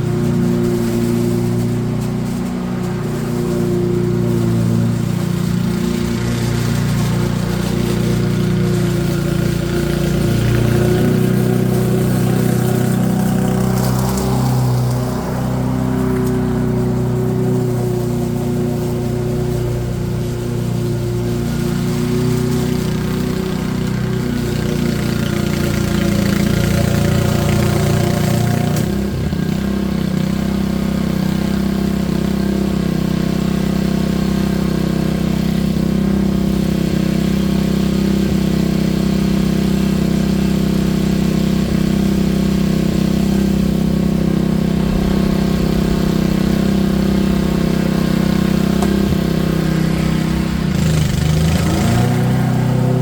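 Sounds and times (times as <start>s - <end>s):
small engine running: 0.0s - 53.0s.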